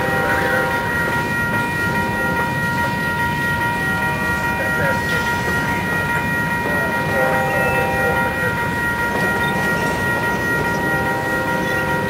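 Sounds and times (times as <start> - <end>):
crossing bell ringing: 0.0 - 12.0
train wheels rumbling on rail: 0.0 - 12.0.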